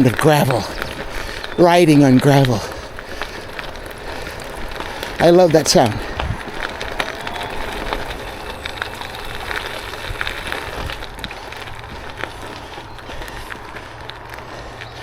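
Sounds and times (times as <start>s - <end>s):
bicycle tyres rolling over gravel: 0.0s - 15.0s.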